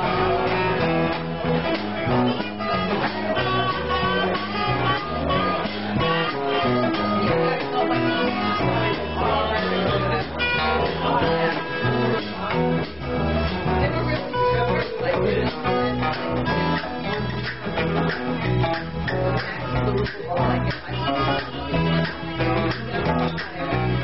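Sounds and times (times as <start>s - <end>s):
drums: 0.0s - 24.0s
low bass line: 0.0s - 24.0s
strummed acoustic guitar: 0.0s - 24.0s.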